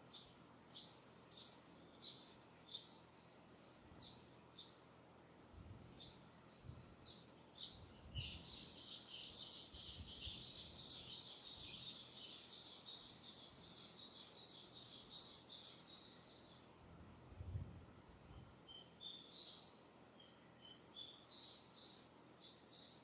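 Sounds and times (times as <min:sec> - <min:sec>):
distant bird singing: 0:00.0 - 0:04.8, 0:05.8 - 0:16.8, 0:18.3 - 0:23.0.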